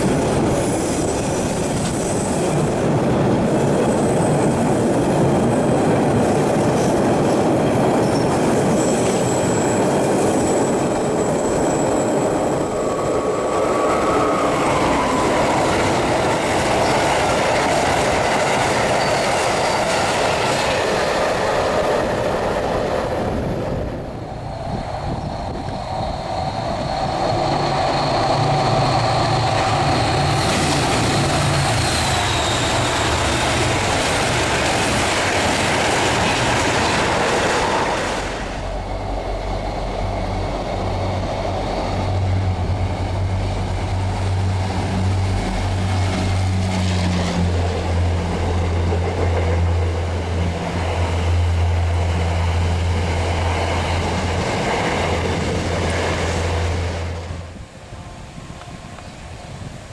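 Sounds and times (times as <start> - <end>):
low train engine drone: 0.0 - 59.9
train rushing past: 0.0 - 59.9.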